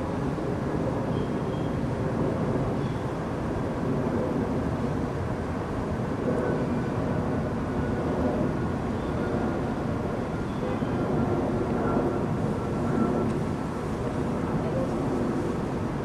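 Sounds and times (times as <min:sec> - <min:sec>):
distant train rumbling over tracks: 0:00.0 - 0:16.0
faint thin whine: 0:00.0 - 0:16.0.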